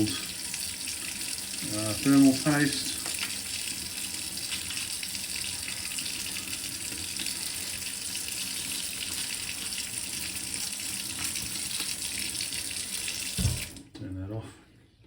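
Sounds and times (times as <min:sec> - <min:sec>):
tap water splashing: 0:00.0 - 0:07.4, 0:08.4 - 0:14.0.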